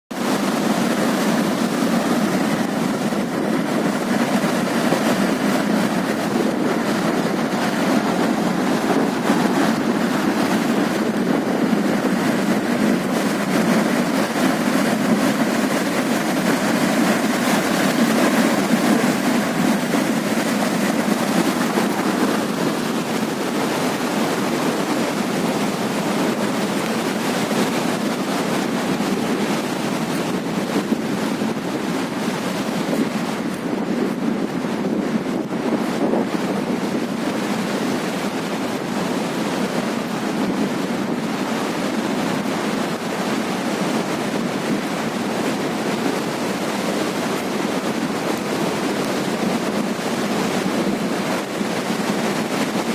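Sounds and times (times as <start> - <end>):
floodwater rushing: 0.1 - 52.9.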